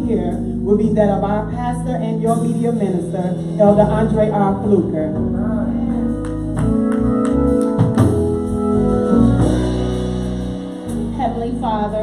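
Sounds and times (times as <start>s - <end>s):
organ playing chords: 0.0s - 12.0s.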